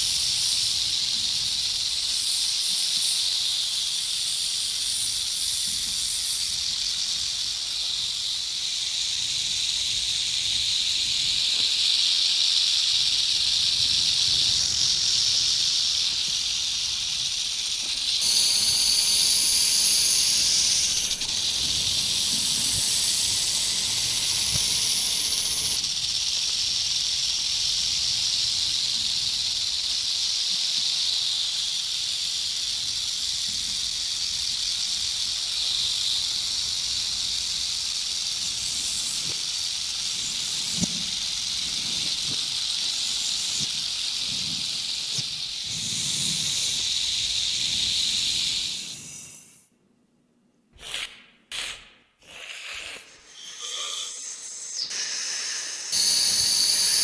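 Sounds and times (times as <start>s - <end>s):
snake hissing: 0.0s - 49.7s, 50.8s - 57.0s.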